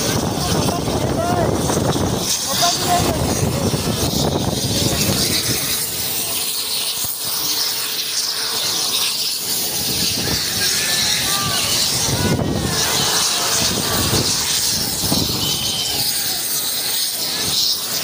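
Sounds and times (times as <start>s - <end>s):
helicopter turbines running: 0.0s - 18.0s.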